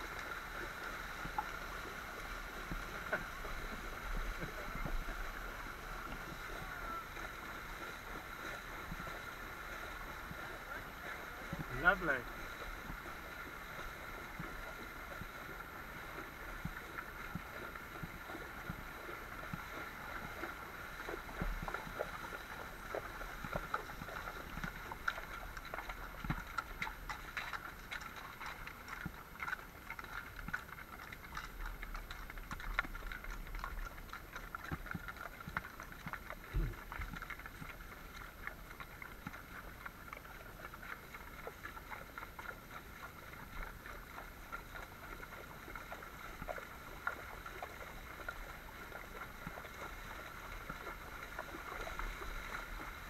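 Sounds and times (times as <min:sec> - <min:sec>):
hooves splashing in water: 0:00.0 - 0:53.0.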